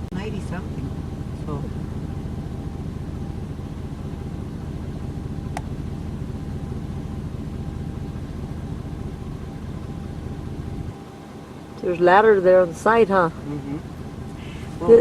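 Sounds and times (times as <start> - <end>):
car low rumble: 0.0 - 15.0.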